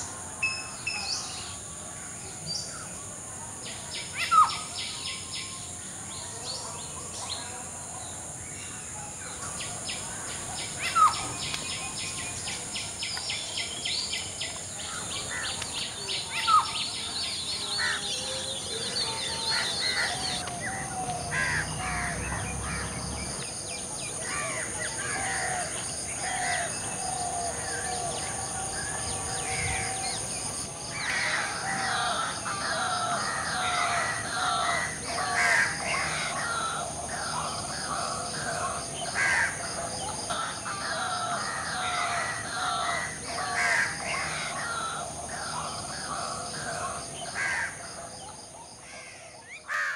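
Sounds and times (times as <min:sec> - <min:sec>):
wild birds calling and singing: 0:00.0 - 0:49.9.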